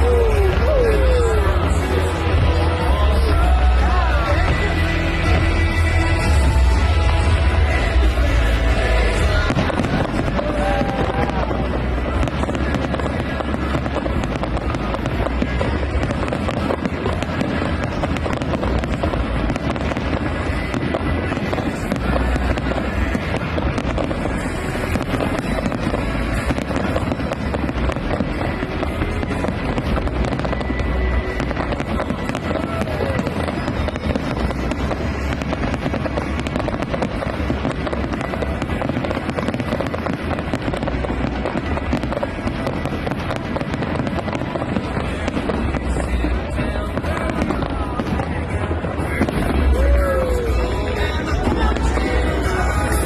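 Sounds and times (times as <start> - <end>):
fireworks booming: 0.0 - 53.0
fireworks crackling and popping: 0.0 - 53.0
music playing: 0.0 - 53.0.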